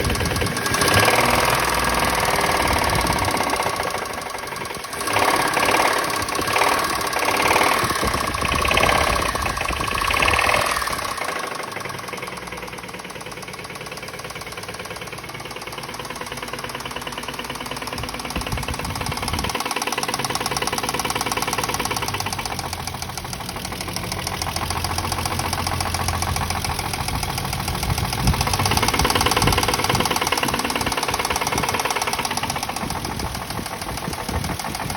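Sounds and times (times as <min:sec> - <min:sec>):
car engine knocking: 0:00.0 - 0:34.9.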